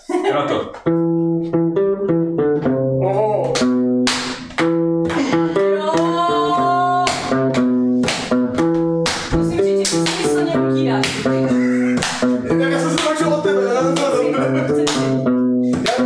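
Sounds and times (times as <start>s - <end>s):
electric guitar chords: 0.8s - 16.0s.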